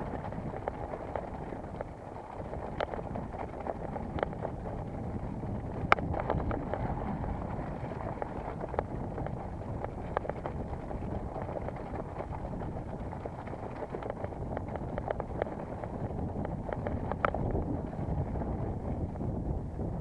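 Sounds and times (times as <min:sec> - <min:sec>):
bike clicks and rattles: 0:00.0 - 0:19.5
bike tyre noise: 0:00.0 - 0:20.0
wind rush on microphone: 0:00.0 - 0:20.0.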